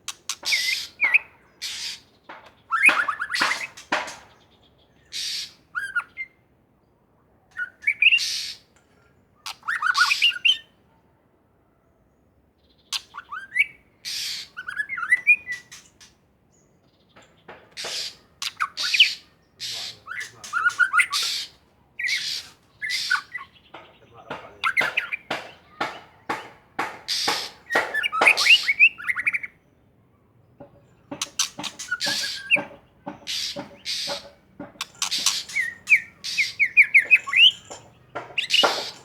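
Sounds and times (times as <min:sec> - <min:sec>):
songbird singing: 0:00.0 - 0:39.0.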